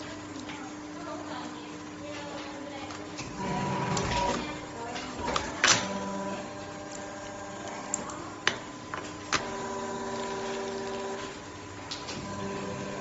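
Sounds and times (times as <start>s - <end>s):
molding machine humming: 0.0s - 13.0s.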